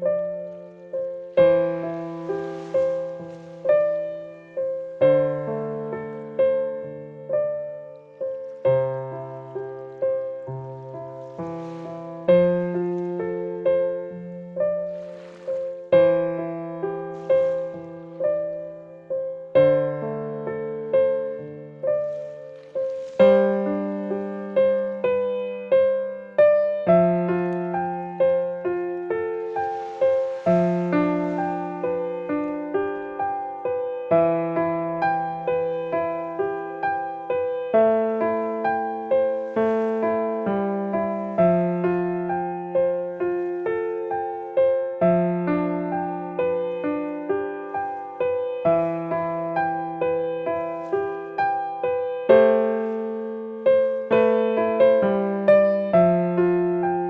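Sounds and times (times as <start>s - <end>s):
slow gentle piano music: 0.0s - 57.0s.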